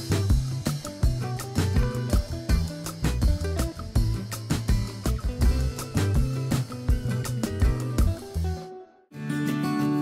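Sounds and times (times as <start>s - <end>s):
music with drum beat and bass: 0.0s - 8.7s.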